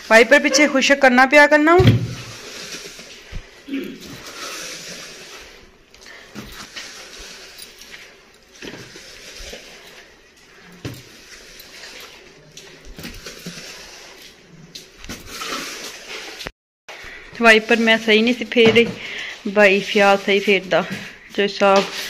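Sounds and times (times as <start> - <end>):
squeegee scraping wet floor: 0.0 - 22.0.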